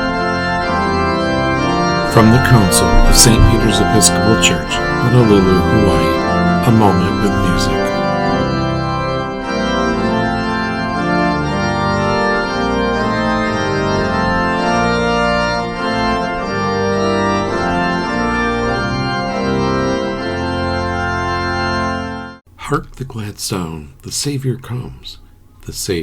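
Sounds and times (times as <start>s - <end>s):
organ playing a hymn: 0.0s - 22.5s.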